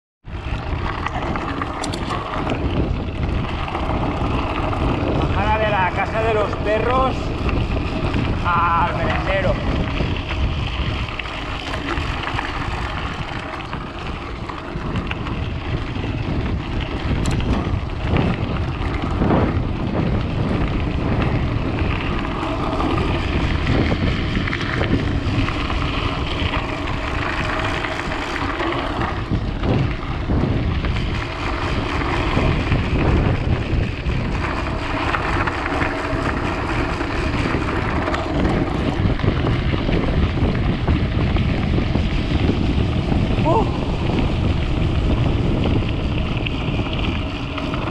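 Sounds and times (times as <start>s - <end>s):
vehicle engine and road rumble: 0.2s - 47.9s
wind noise on microphone: 0.2s - 47.9s.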